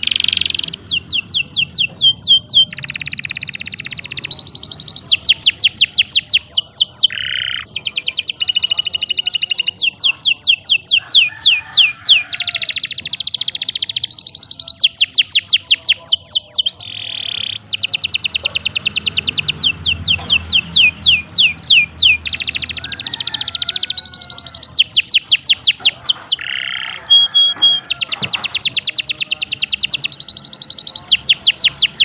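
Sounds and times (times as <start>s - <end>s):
canary singing: 0.0s - 32.0s.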